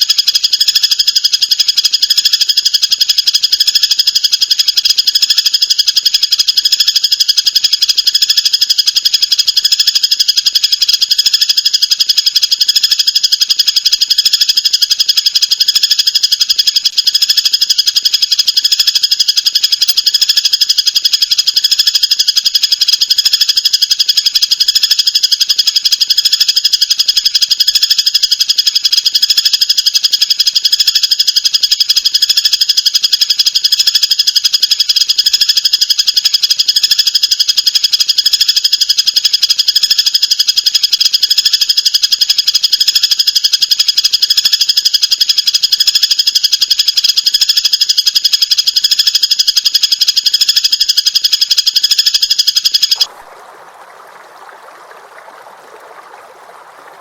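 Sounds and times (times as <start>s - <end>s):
songbird buzzing trill: 0.0s - 53.1s.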